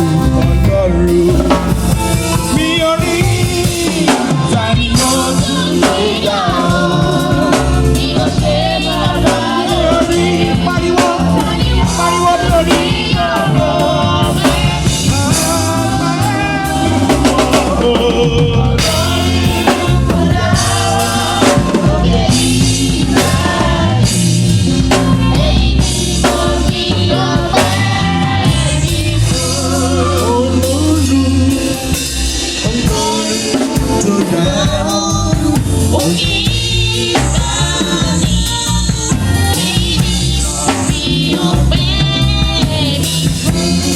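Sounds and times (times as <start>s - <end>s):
drum kit: 0.0s - 43.9s
gospel band music: 0.0s - 43.9s
heavy bass line: 0.0s - 43.9s.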